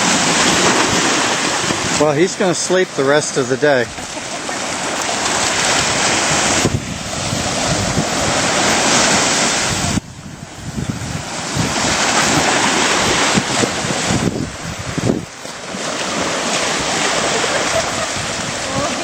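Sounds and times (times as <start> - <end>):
ocean surf washing in: 0.0 - 19.0
wind buffeting microphone: 0.0 - 19.0.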